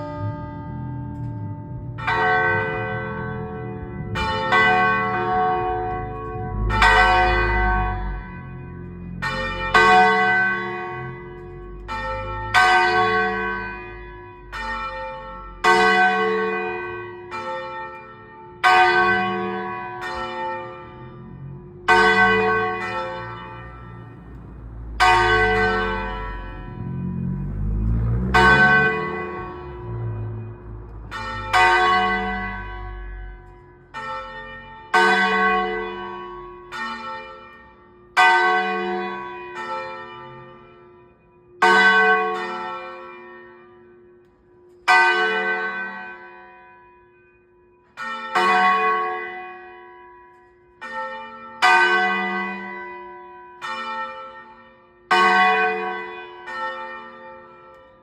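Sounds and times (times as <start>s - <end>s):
church bell ringing: 0.0s - 58.0s.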